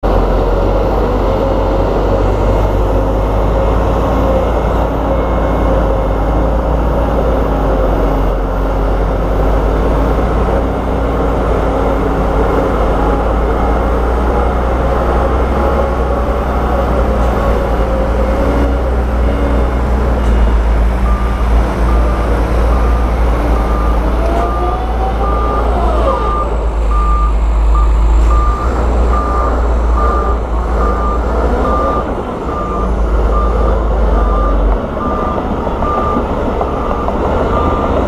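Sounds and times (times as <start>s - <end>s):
heavy diesel machinery running: 0.0s - 38.0s.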